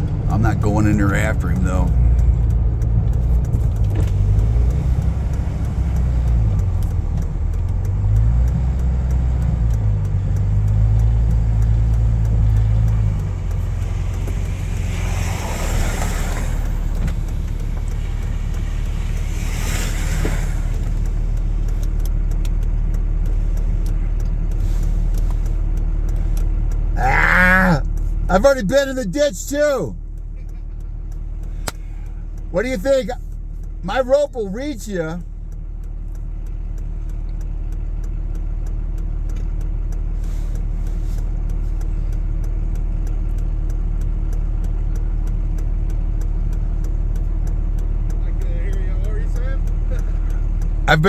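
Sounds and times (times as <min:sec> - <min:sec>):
pickup truck engine running: 0:00.0 - 0:51.0.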